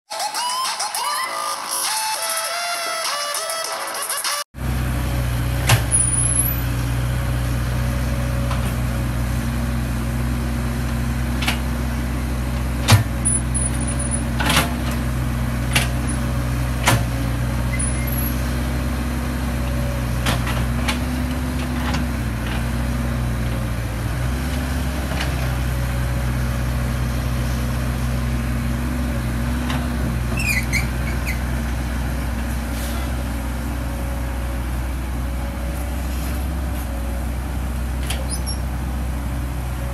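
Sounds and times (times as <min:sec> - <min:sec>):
excavator diesel engine running: 0:04.6 - 0:39.9.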